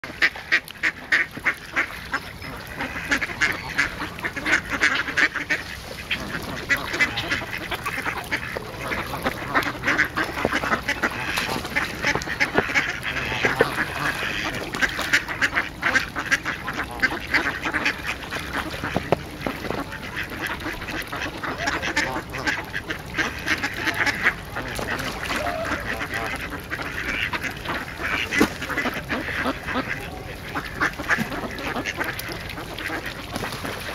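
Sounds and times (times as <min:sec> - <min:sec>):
ducks quacking: 0:00.0 - 0:33.9
geese calling: 0:00.0 - 0:33.9.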